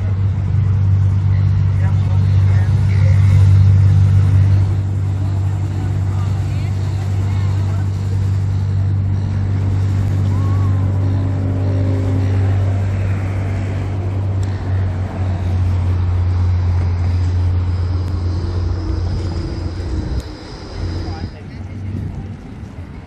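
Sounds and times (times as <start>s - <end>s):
boat engine drone: 0.0s - 23.0s
propeller churning water: 0.0s - 23.0s
road traffic passing: 0.0s - 23.0s.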